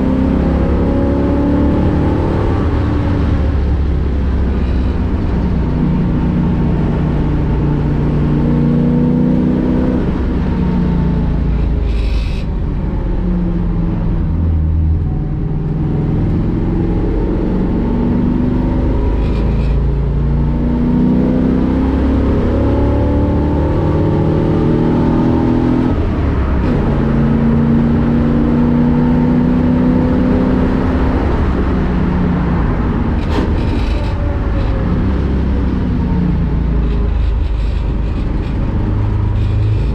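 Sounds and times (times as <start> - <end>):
race car engine revving: 0.0 - 12.3, 15.6 - 39.9.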